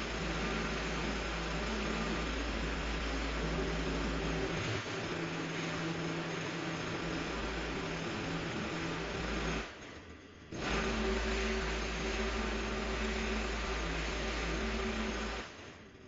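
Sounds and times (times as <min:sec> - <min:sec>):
petrol hedge trimmer running: 0:00.0 - 0:09.9, 0:10.5 - 0:15.6.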